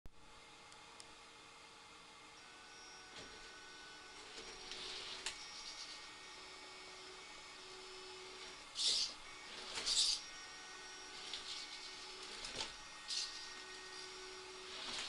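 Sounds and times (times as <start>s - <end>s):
faint steady hum: 0.1s - 15.0s
electric drivetrain whirring: 0.4s - 15.0s.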